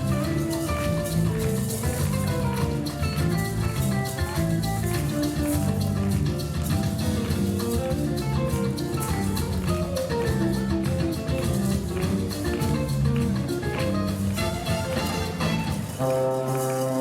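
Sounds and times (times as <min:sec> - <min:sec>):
music with steady beat: 0:00.0 - 0:17.0
plucked guitar-like notes: 0:00.0 - 0:17.0.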